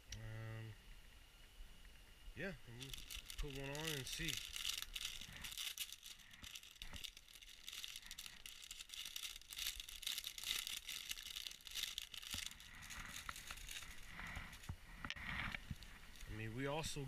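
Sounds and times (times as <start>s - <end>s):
plastic bag crinkling: 2.7s - 16.4s.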